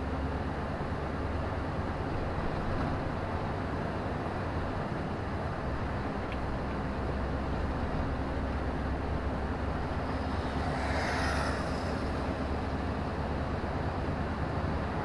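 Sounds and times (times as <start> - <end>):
lorry engine hum: 0.0 - 15.0.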